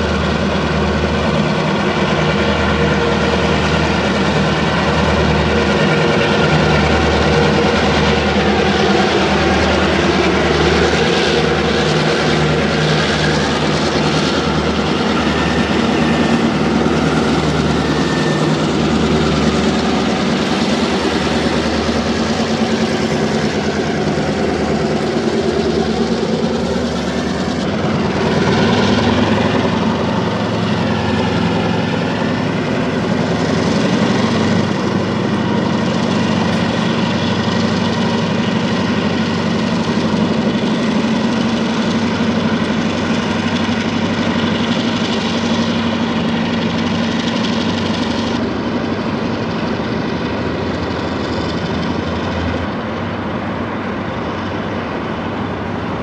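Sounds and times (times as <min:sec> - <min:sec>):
diesel locomotive engine drone: 0:00.0 - 0:56.0
train rolling rumble: 0:00.0 - 0:56.0.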